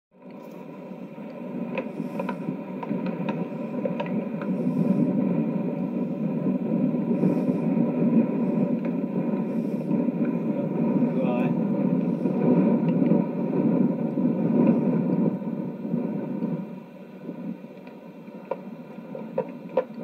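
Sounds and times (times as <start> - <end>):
faint whine: 0.1 - 20.0
low rumble: 0.2 - 20.0.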